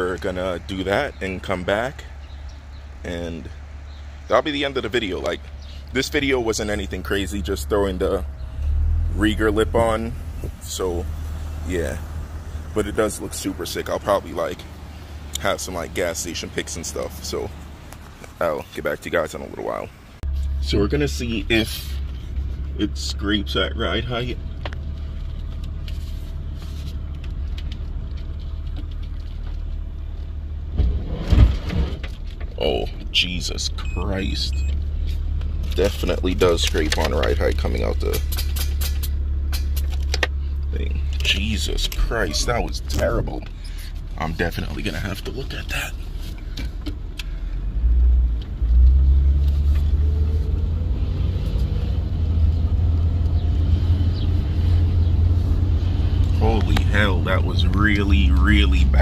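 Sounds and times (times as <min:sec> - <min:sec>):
car engine rumble from cabin: 0:00.0 - 0:59.0.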